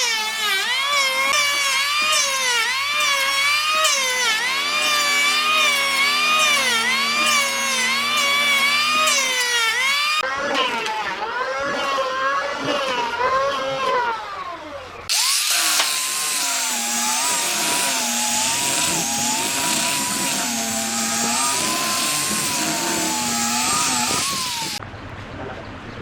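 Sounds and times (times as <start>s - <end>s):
power tool working wood: 0.0s - 24.8s.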